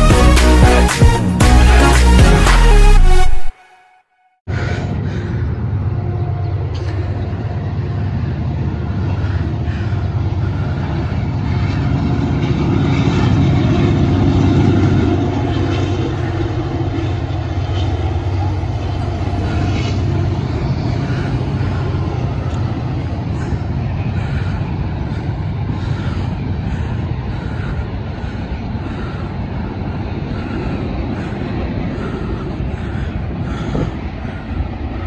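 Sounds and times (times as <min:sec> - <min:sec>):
freight train rumbling past: 0:04.5 - 0:35.0.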